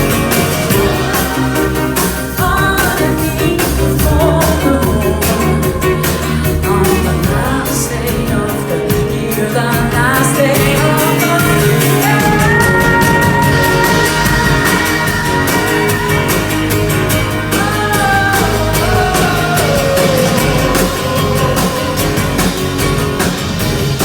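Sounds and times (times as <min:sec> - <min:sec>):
person singing: 0:00.0 - 0:23.3
live pop-rock band: 0:00.0 - 0:24.0.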